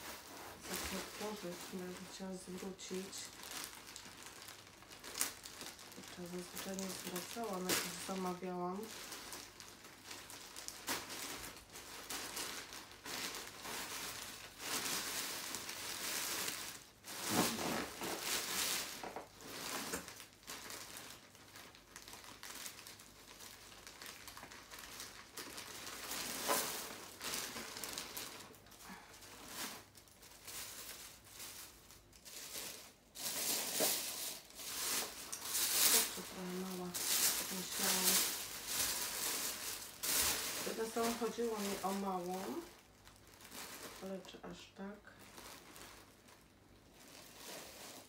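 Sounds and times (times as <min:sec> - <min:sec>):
plastic bag crinkling: 0:00.0 - 0:48.0.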